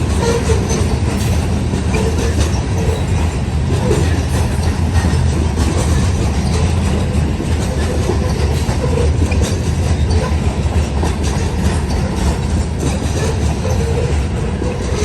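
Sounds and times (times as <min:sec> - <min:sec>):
freight train rumbling past: 0:00.0 - 0:15.0
wheels clacking over rails: 0:00.0 - 0:15.0.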